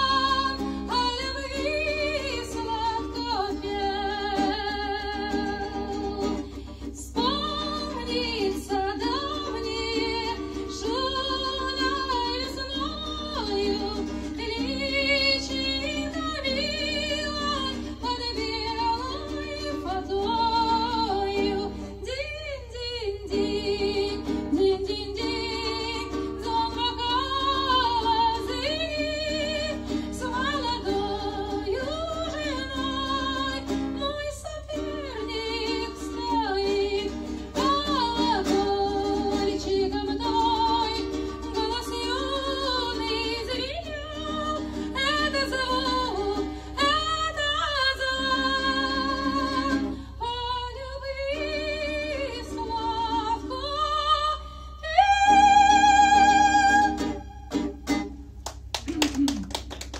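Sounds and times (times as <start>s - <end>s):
woman singing: 0.0s - 58.1s
acoustic guitar: 0.0s - 59.9s.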